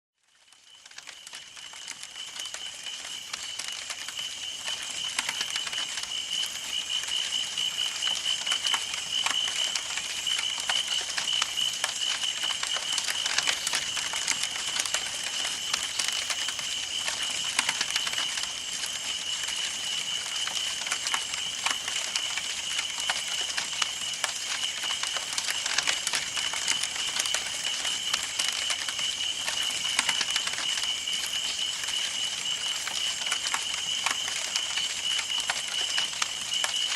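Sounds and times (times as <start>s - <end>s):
campfire crackling and popping: 0.2s - 36.9s.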